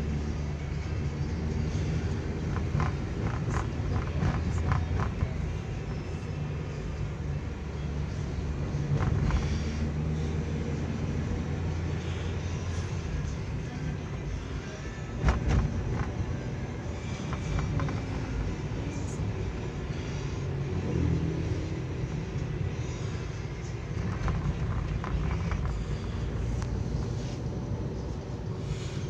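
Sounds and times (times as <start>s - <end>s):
engine hum and road rumble: 0.0s - 29.0s.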